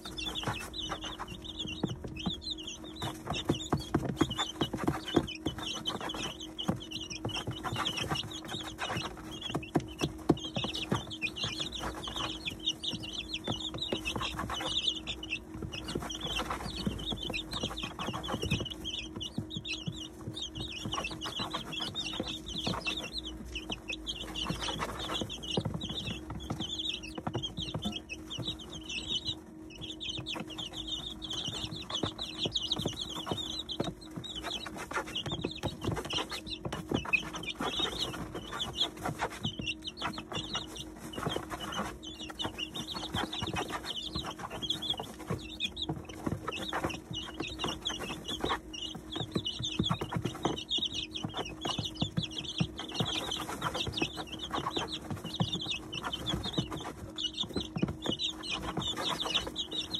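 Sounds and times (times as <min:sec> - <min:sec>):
chicks peeping: 0:00.0 - 0:59.9
pecking ticks: 0:00.0 - 0:59.9.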